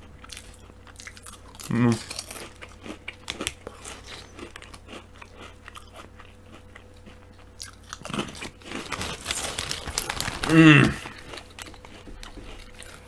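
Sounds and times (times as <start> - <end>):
crisps crunching and chewing: 0.0 - 13.0.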